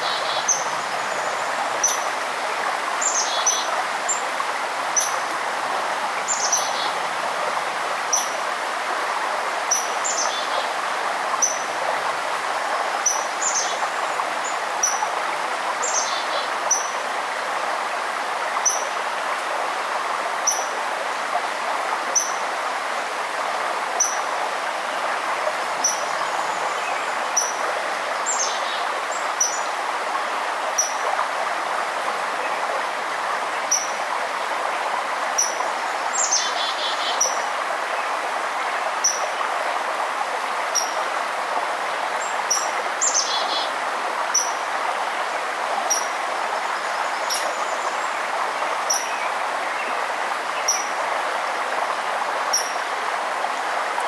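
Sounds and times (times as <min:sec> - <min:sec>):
running water: 0:00.0 - 0:54.0.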